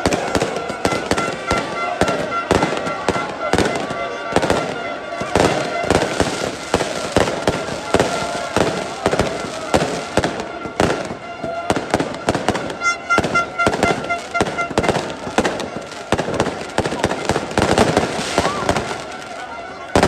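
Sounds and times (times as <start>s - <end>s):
firecrackers banging: 0.0s - 20.0s
large crowd noise: 0.0s - 20.0s.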